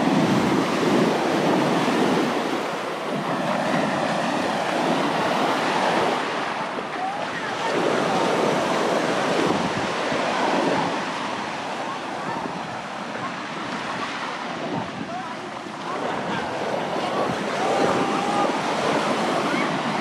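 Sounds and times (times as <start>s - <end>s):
sea waves washing onto beach: 0.0s - 20.0s
wind buffeting microphone: 0.0s - 20.0s.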